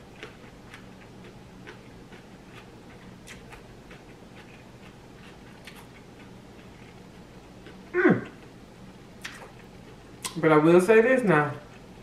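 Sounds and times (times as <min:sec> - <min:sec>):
person chewing food: 0:00.0 - 0:10.4, 0:11.6 - 0:12.0.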